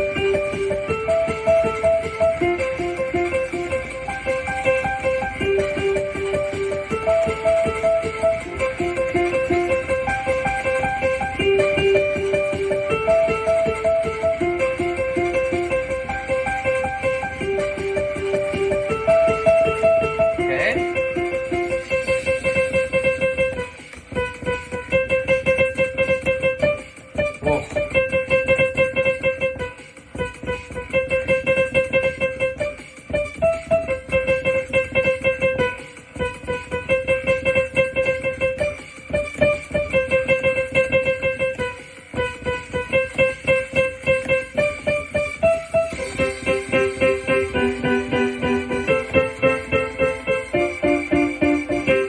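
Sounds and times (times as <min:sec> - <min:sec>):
keyboard tune: 0:00.0 - 0:52.0.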